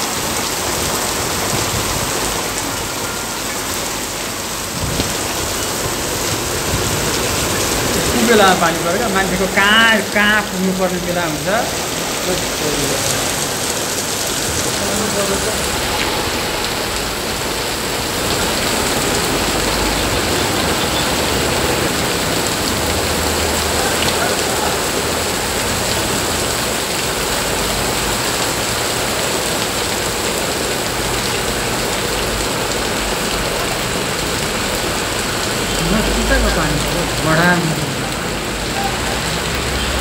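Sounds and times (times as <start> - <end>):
heavy rain on pavement: 0.0 - 40.0.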